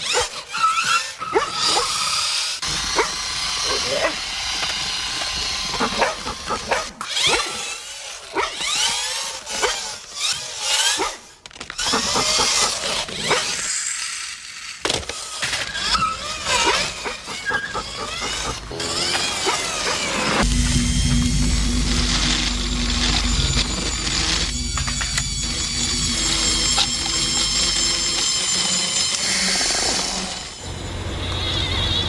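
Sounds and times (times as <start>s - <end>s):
small electric motor whirring: 0.0s - 32.0s.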